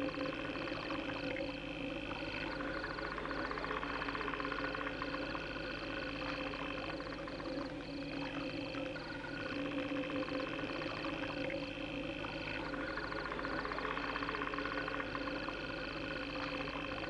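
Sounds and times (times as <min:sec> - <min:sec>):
steady droning hum: 0:00.0 - 0:17.0.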